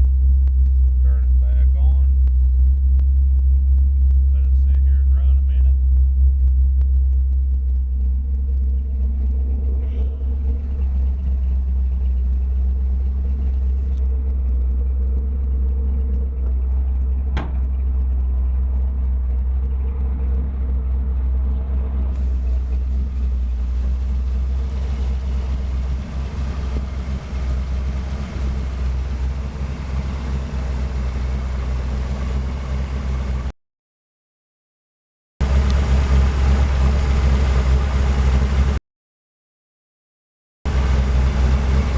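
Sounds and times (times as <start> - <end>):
truck engine idling: 0.0 - 33.5, 35.4 - 38.8, 40.7 - 41.9.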